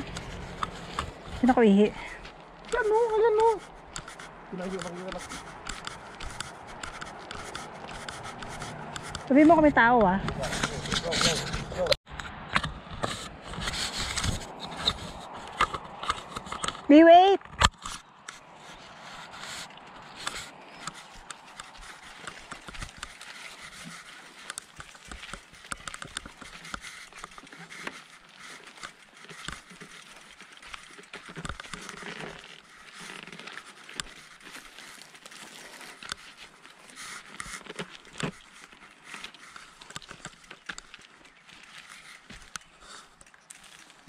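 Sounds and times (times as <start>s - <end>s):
bicycle tyres crunching on gravel: 0.0s - 12.4s, 18.0s - 44.0s
bike clicks and rattles: 0.0s - 44.0s.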